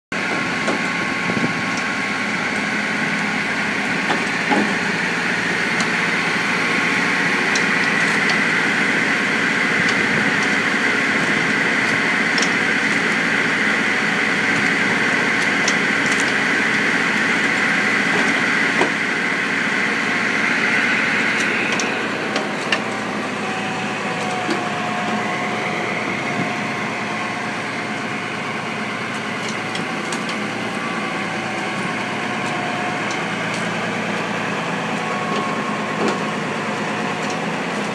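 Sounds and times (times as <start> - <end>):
saw bench and log splitter running: 0.1 - 37.9.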